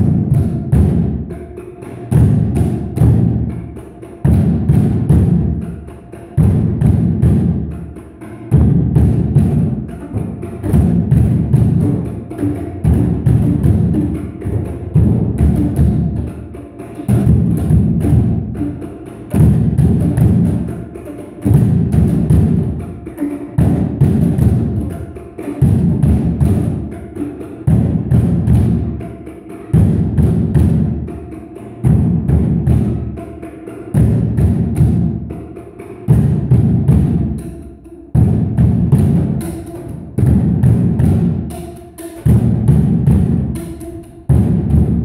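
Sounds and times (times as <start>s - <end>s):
drums beaten with plastic tubes: 0.0s - 45.0s.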